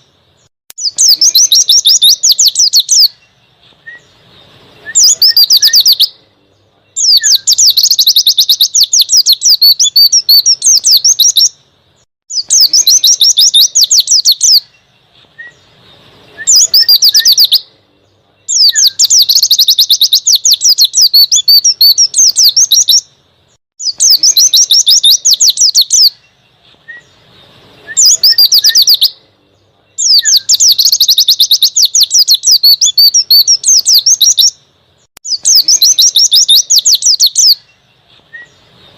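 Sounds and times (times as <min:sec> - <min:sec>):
bird singing high-pitched song: 0:00.0 - 0:38.9.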